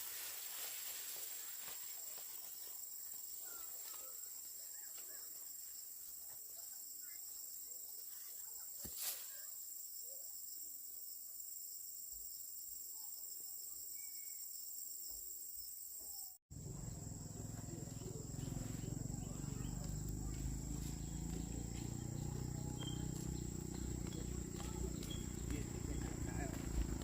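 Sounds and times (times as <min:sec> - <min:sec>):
insect chorus: 0:00.0 - 0:27.0.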